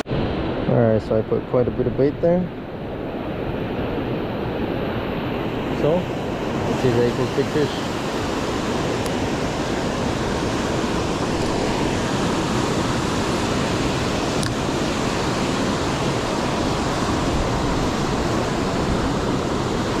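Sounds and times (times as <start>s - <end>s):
ocean surf washing on beach: 0.0s - 20.0s.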